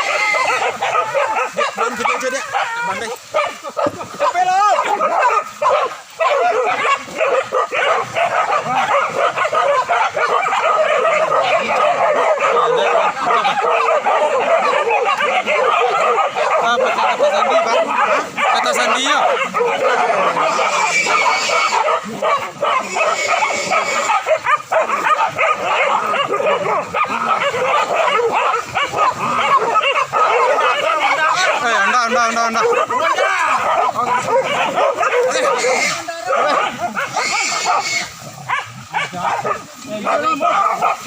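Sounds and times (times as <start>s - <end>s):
dogs barking and yelping: 0.0s - 41.0s.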